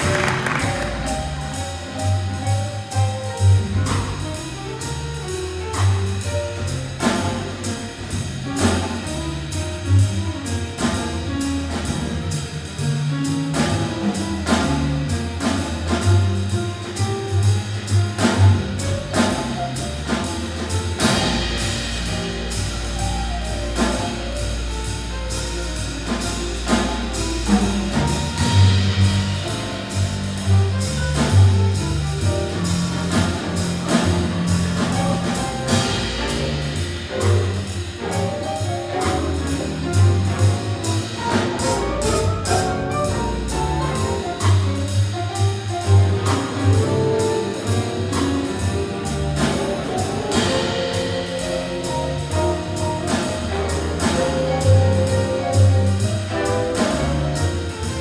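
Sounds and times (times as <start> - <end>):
bass line: 0.0 - 58.0
drum and cymbal hits: 0.0 - 58.0
jazz big band playing: 0.0 - 58.0.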